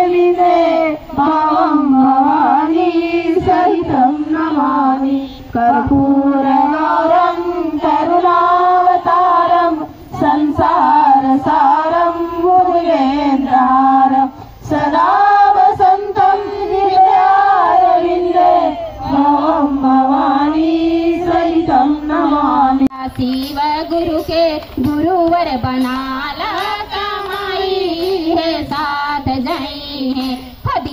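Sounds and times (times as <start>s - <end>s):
women singing devotional song: 0.0s - 30.9s.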